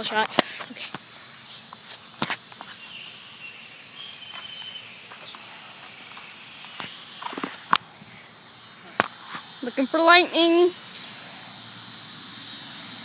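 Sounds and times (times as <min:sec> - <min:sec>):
steady storm hiss: 0:00.0 - 0:13.0
faint high chirps: 0:02.6 - 0:13.0.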